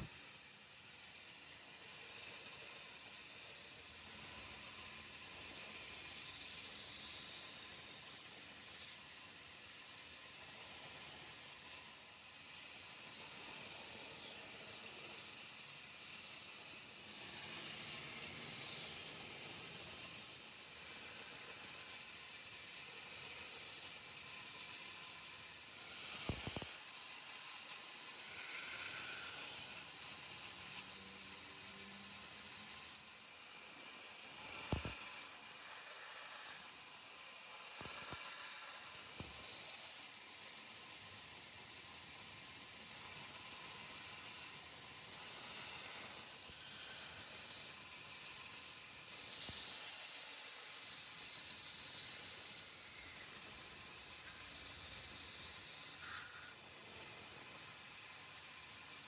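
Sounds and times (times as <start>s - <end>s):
faint high-pitched hiss: 0.0s - 59.0s.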